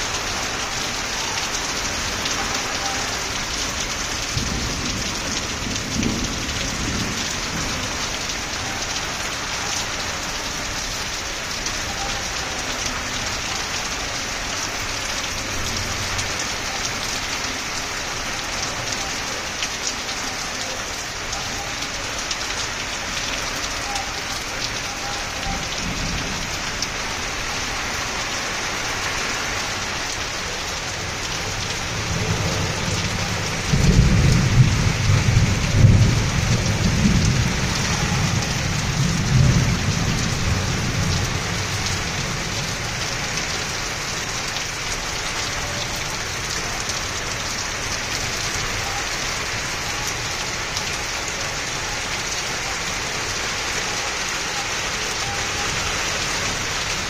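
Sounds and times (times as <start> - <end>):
heavy rain on a rooftop: 0.0 - 57.0.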